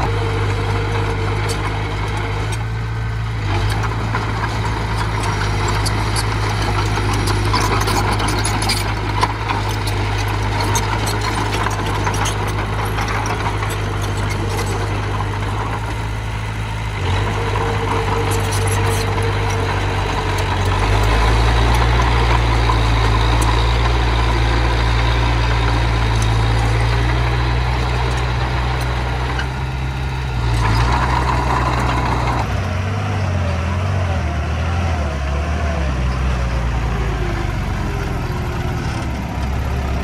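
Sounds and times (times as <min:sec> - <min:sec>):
construction machine engine running: 0:00.0 - 0:40.0.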